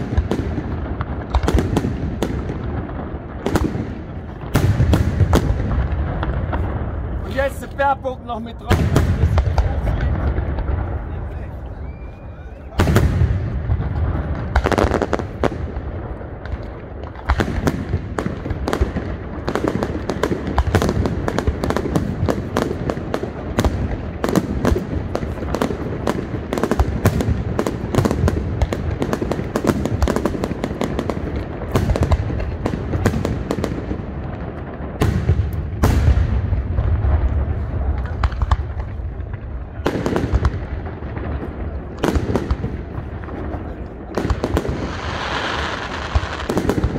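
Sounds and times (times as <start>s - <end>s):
firework shells booming: 0.0s - 12.0s, 12.6s - 46.9s
rapid firework crackling: 0.0s - 46.9s.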